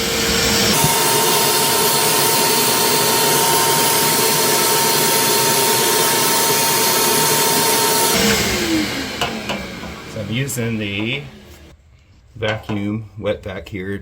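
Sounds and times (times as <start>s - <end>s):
shop vacuum whining: 0.0s - 11.8s.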